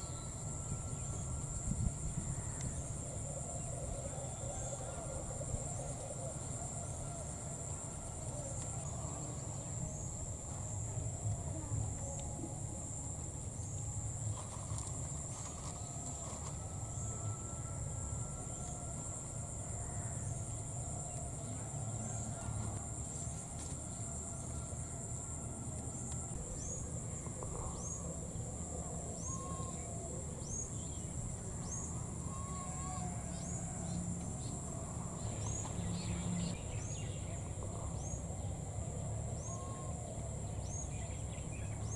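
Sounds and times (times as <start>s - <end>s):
high-pitched insect drone: 0.0s - 41.9s
short insect chirp: 5.8s - 41.9s.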